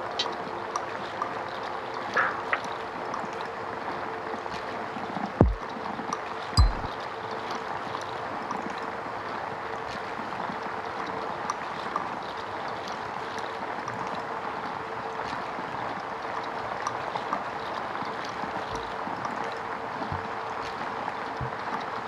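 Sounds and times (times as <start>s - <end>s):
rushing stream-like noise: 0.0s - 22.0s.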